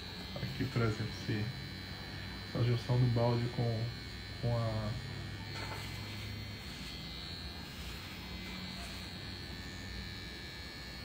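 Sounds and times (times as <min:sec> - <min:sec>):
tattoo machine buzzing: 0:00.0 - 0:11.0.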